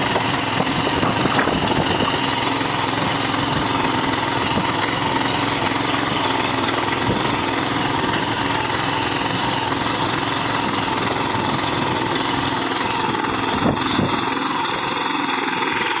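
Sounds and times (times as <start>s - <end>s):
petrol engine running: 0.0s - 16.0s.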